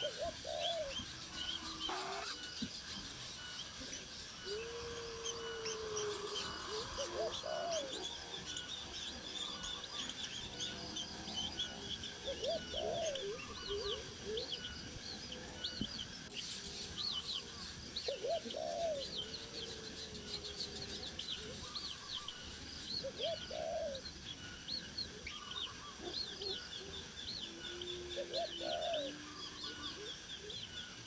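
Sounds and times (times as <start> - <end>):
low repeated bird call: 0.0 - 31.0.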